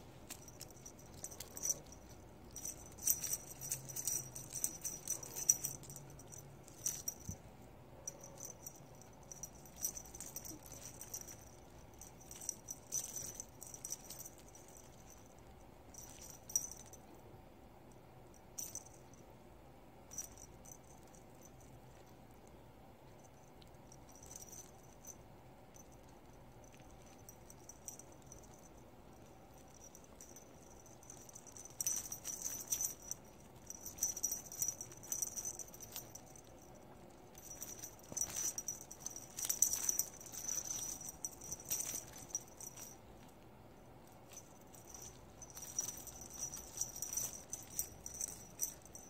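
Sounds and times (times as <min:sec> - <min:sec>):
small metal bell jingling: 0:00.0 - 0:17.2, 0:18.2 - 0:19.2, 0:20.0 - 0:49.0.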